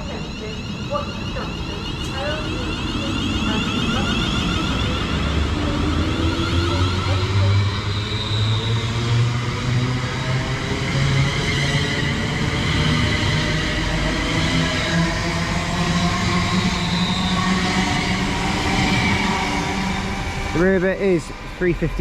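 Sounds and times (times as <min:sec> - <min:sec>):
electric train whine rising: 0:00.0 - 0:22.0.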